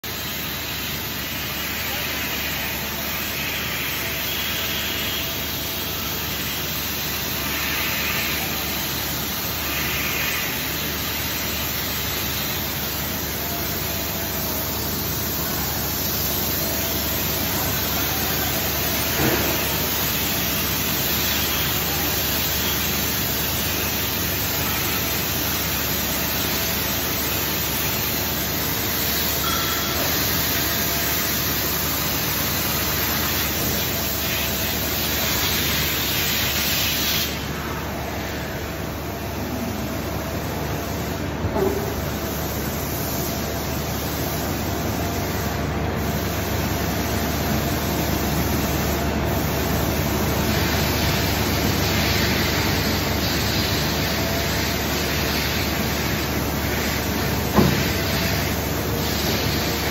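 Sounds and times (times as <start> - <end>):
machine hiss and hum: 0.0 - 59.9.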